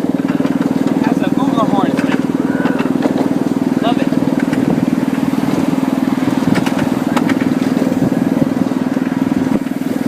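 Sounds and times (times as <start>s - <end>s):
small engine putter: 0.0s - 10.0s.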